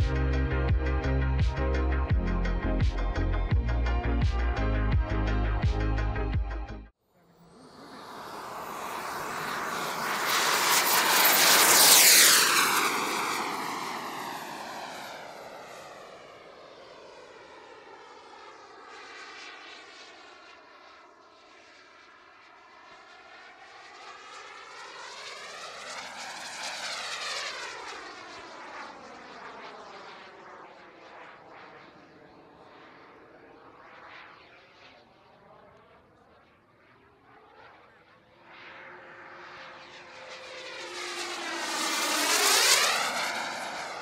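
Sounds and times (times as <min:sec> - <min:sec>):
model jet turbine passing: 0:07.2 - 0:44.0.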